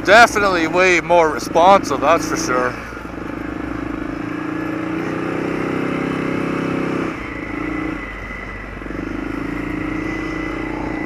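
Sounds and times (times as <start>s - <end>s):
atv engine under throttle: 0.0s - 11.0s.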